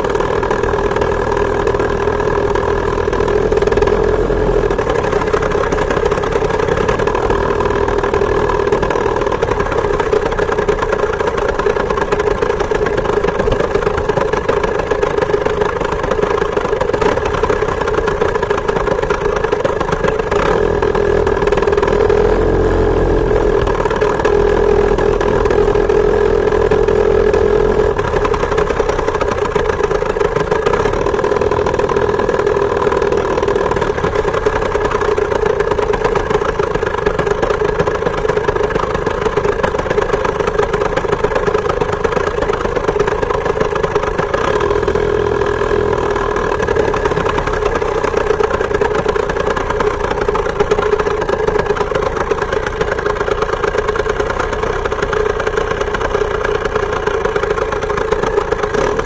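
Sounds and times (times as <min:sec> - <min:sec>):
two-stroke moped engine running: 0:00.0 - 0:59.0.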